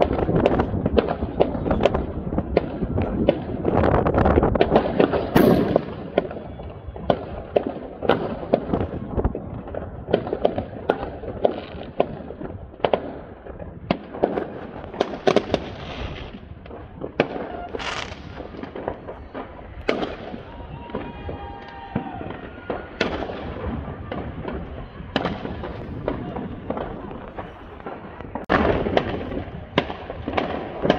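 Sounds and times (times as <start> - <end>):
fireworks bangs and pops: 0.0 - 30.9
fireworks crackle: 0.0 - 30.9.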